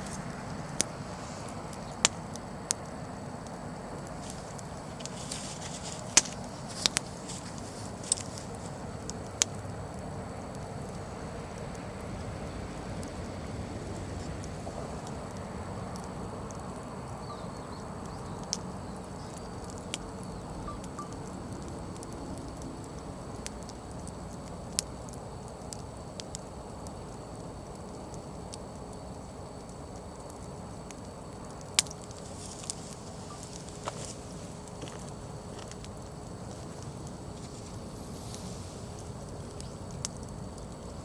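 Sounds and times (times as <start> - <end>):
firewood crackling and popping: 0.0 - 41.0
wood fire burning: 0.0 - 41.0.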